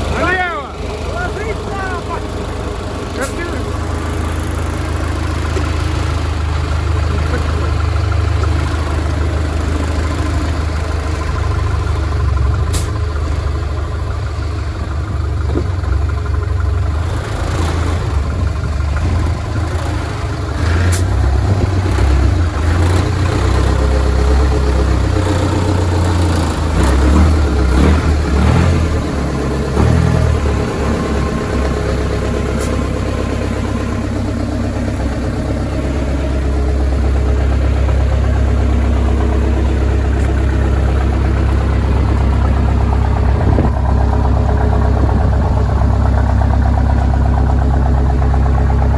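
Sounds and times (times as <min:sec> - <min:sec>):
truck engine running at low revs: 0:00.0 - 0:48.9.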